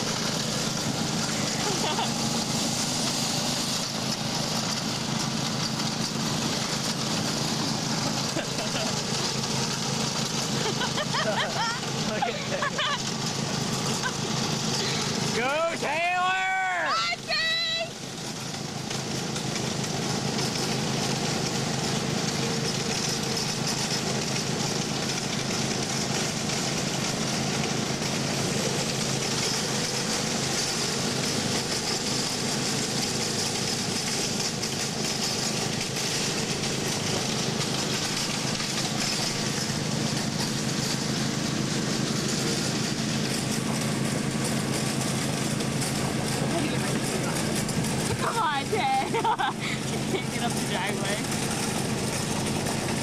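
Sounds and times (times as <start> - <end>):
lawn mower engines droning: 0.0 - 53.0.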